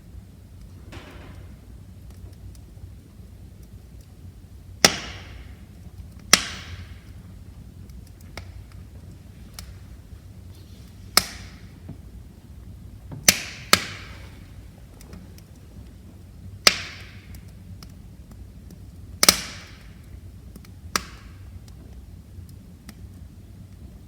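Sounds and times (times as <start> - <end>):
low rumble of flames: 0.0 - 24.0
wood fire crackling: 0.0 - 24.0
sharp pops from burning logs: 0.5 - 24.0.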